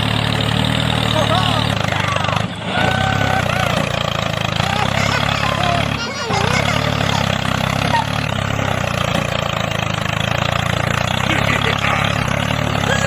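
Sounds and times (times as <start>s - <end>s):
small tractor engine chugging: 0.0s - 13.0s.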